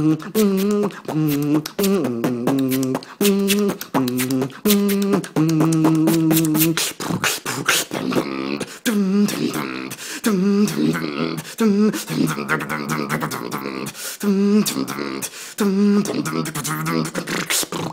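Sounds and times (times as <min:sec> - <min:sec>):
beatboxing: 0:00.0 - 0:17.9
man singing short notes: 0:00.0 - 0:17.9.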